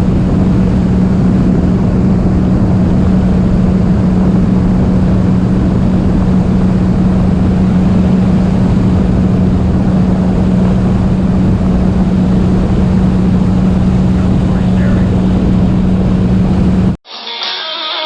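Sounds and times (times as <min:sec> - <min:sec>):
jet ski engine droning: 0:00.0 - 0:17.0
rushing noise with buffeting: 0:00.0 - 0:17.0.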